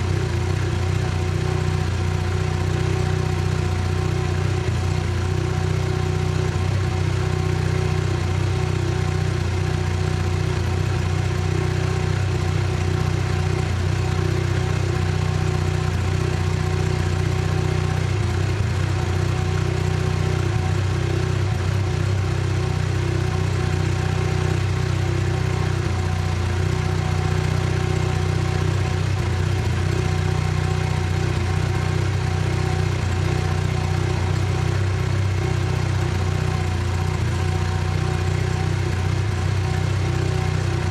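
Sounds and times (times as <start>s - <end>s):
rotary engine idling: 0.0s - 40.9s.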